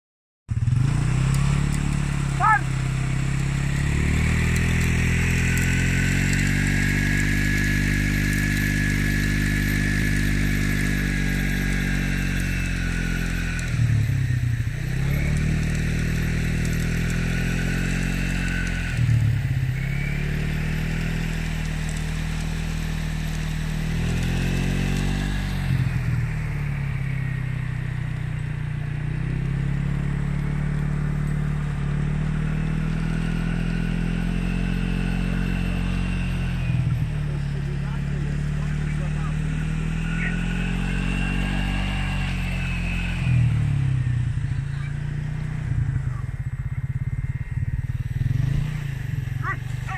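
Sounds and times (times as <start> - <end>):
small engine running: 0.5 - 49.9.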